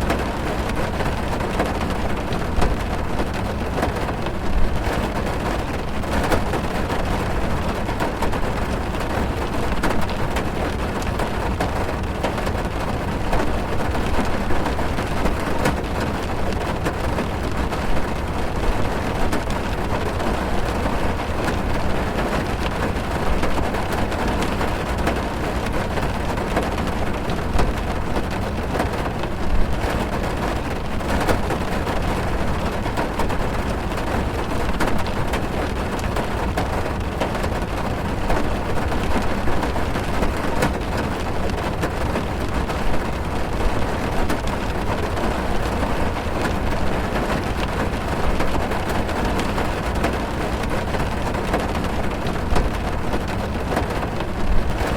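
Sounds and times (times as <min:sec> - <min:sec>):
heavy rain on car roof: 0:00.0 - 0:54.9.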